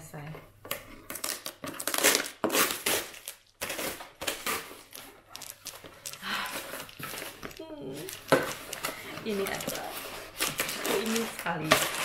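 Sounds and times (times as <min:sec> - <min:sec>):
packaging crinkling and rustling: 0:01.0 - 0:12.0.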